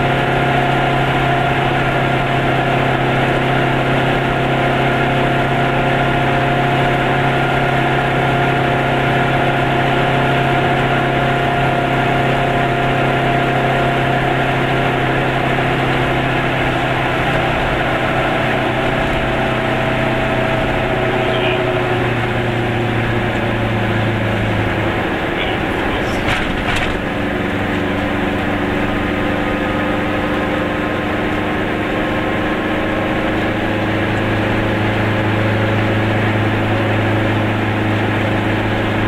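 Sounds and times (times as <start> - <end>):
small two-stroke engine running: 0.0 - 39.0
tyre and road noise: 4.0 - 39.0.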